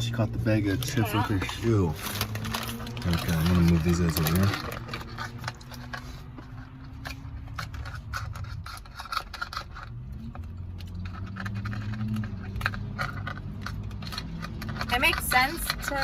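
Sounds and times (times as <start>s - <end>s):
plastic containers and utensils clattering: 0.0s - 16.0s.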